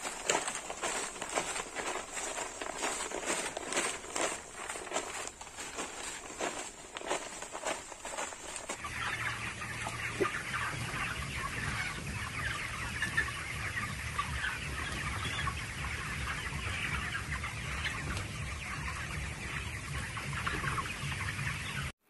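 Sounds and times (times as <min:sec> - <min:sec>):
chickens cheeping and clucking: 0:00.0 - 0:22.0.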